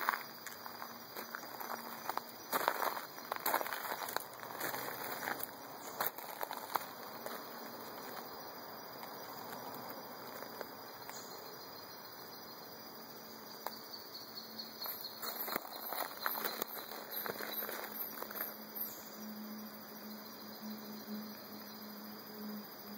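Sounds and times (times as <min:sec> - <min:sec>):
insect chirping: 0:00.0 - 0:22.9
steady background hiss: 0:00.0 - 0:22.9.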